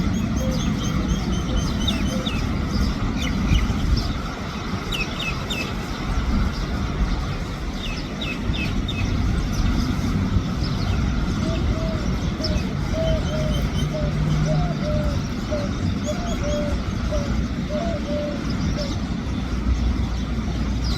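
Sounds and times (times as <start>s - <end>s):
low traffic rumble: 0.0s - 20.9s
sparrows chirping: 0.0s - 20.9s.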